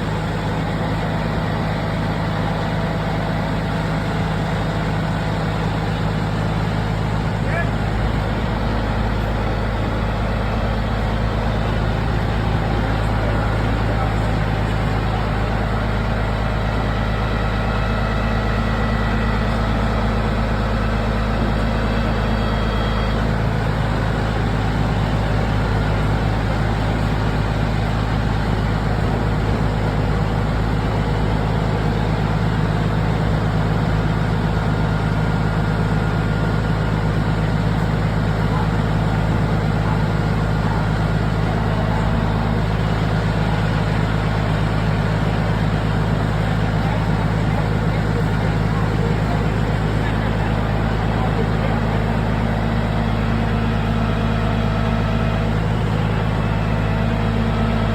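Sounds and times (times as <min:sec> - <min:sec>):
vehicle engine droning: 0:00.0 - 0:57.9.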